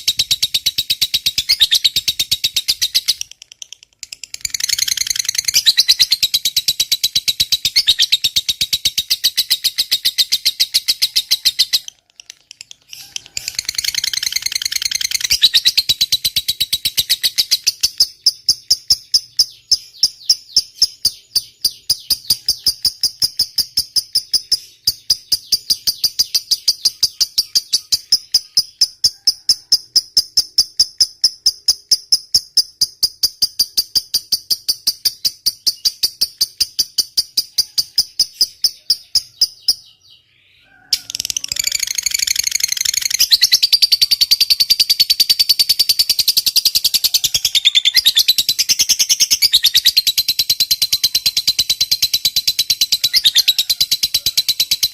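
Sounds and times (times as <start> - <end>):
lovebird chattering call: 0.0 - 54.9.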